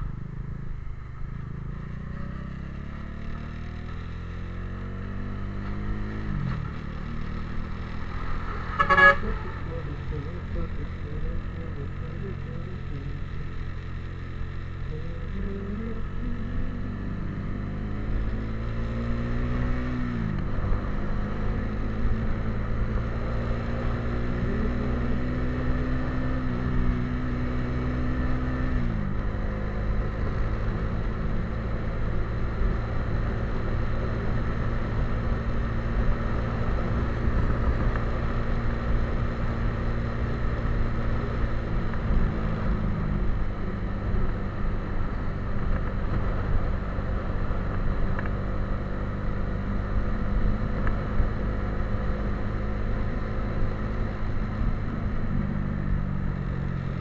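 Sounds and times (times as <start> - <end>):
motorcycle engine accelerating: 0.0 - 57.0
road and wind noise: 0.0 - 57.0.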